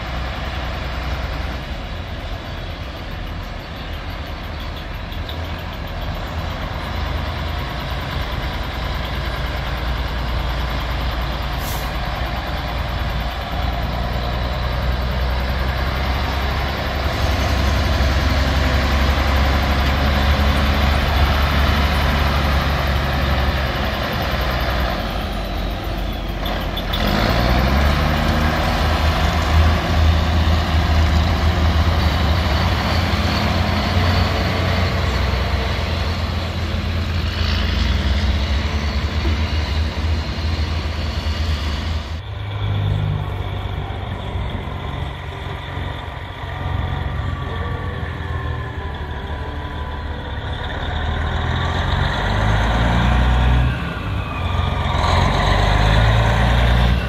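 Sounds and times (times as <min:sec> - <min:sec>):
diesel truck engine pulling away: 0:00.0 - 0:57.0.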